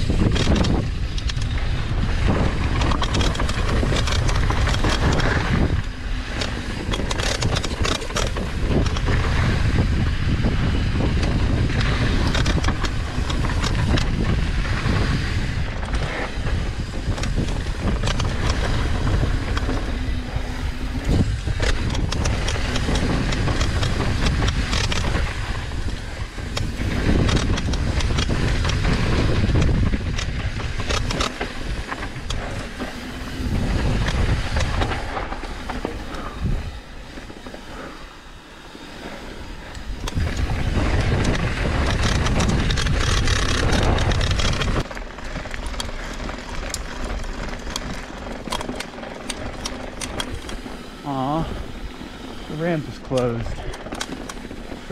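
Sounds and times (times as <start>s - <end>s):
bike rattling and clanking: 0.0s - 54.9s
tyres rolling and skidding on dirt: 0.0s - 54.9s
wind buffeting microphone: 0.0s - 54.9s.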